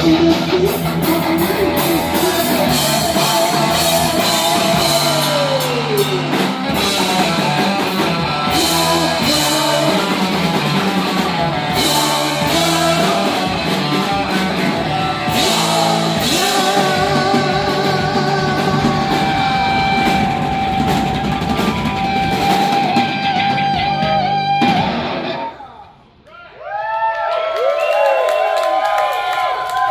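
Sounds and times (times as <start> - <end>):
heavy metal band playing live: 0.0 - 25.5.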